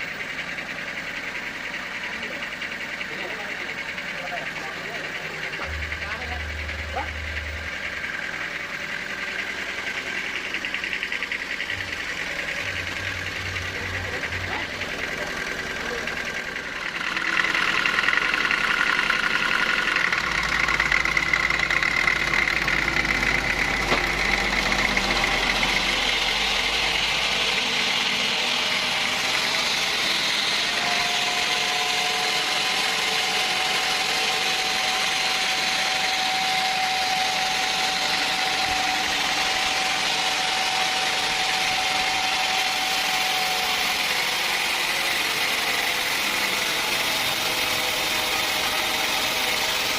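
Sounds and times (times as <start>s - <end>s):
sawmill running with high whine: 0.0s - 49.9s.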